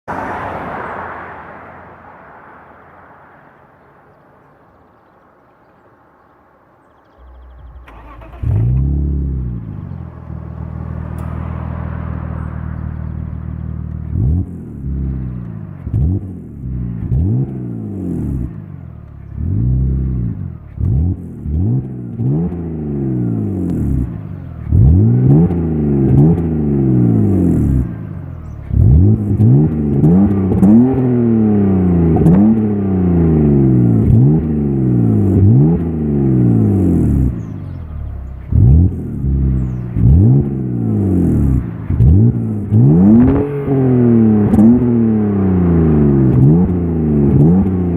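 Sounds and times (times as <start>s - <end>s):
car engine idling and revving: 6.8s - 47.9s.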